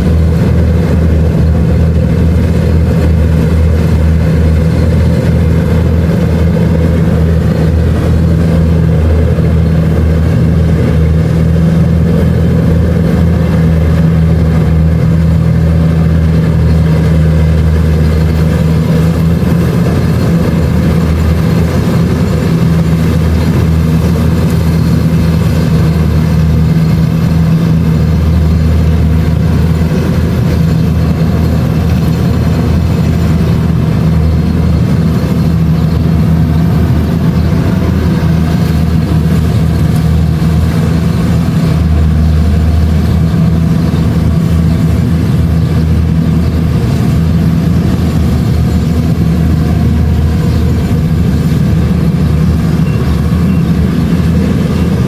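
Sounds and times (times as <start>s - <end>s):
combine harvester engine droning: 0.0s - 55.0s
threshing machinery clatter: 0.0s - 55.0s.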